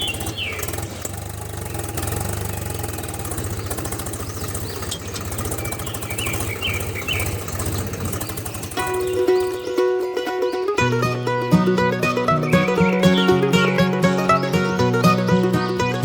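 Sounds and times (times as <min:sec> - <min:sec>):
birds chirping: 0:00.0 - 0:16.0
small engine running: 0:00.0 - 0:16.0.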